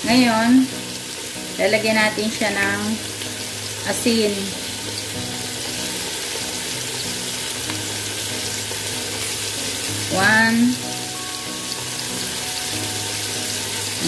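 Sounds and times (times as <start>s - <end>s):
chicken and onions sizzling in oil: 0.0s - 14.0s.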